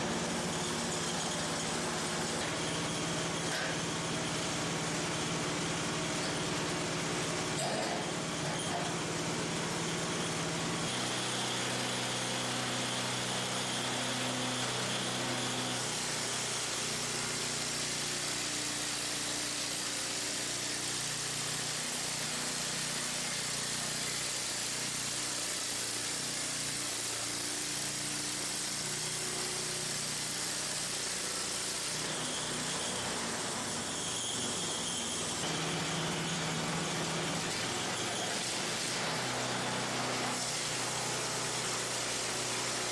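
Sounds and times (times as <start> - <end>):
band saw blade cutting wood: 0.0 - 42.9.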